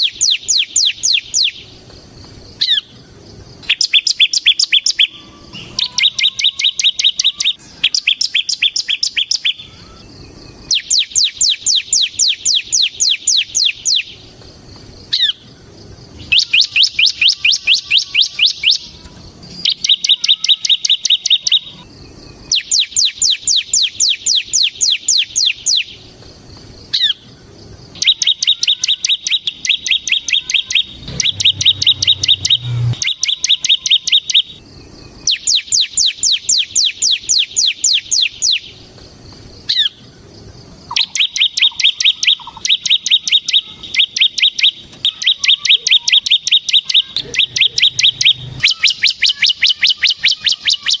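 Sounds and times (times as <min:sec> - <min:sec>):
bird singing fast trills: 0:00.0 - 0:01.8, 0:02.5 - 0:14.3, 0:15.0 - 0:26.1, 0:26.8 - 0:38.9, 0:39.5 - 0:51.0.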